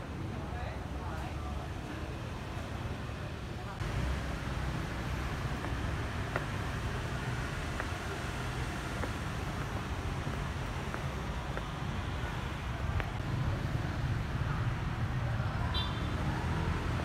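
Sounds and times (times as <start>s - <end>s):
distant traffic: 0.0s - 17.0s
wind: 0.0s - 17.0s.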